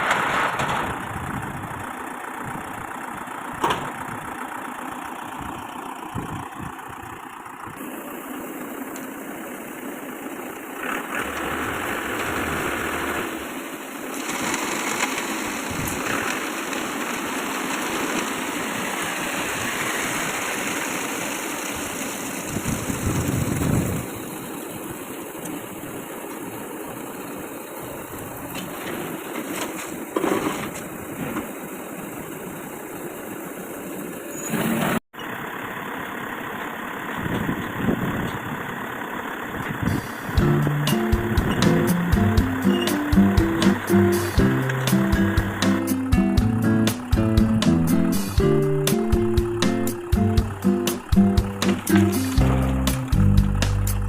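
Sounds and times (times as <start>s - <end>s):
concrete mixer engine running: 0.0s - 34.2s, 35.2s - 54.0s.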